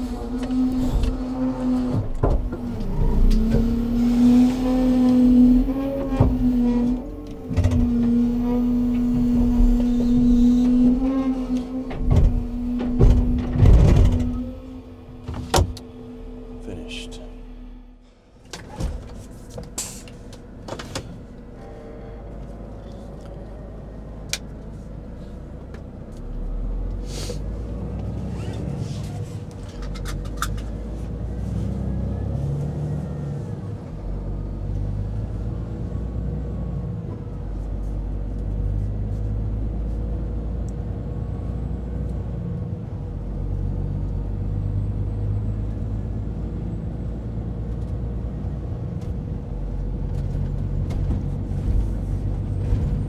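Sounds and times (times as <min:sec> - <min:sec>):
truck engine rumbling: 0:00.0 - 0:53.0.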